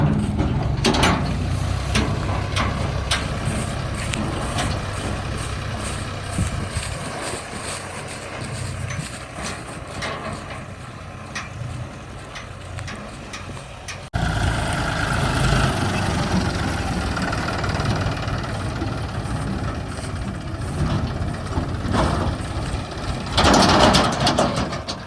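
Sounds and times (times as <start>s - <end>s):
metal knocks and clanks: 0.0s - 14.2s, 15.7s - 25.0s
diesel engine of heavy machinery: 0.0s - 25.0s.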